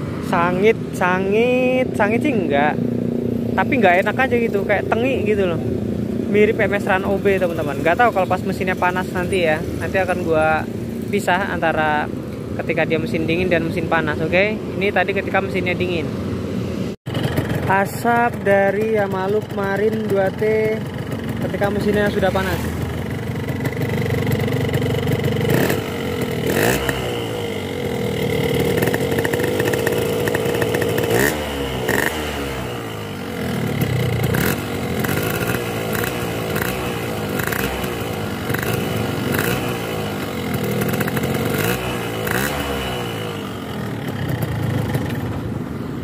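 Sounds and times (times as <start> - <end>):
two-stroke motorcycle engine revving: 0.0 - 46.0.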